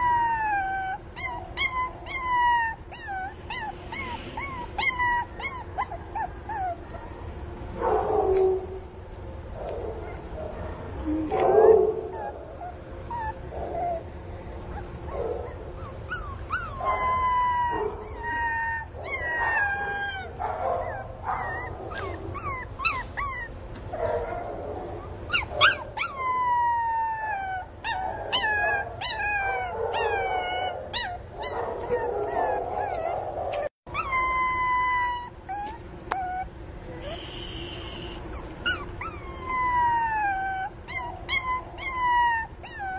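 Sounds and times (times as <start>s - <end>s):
puppy whining and howling: 0.0s - 9.0s, 9.8s - 42.9s.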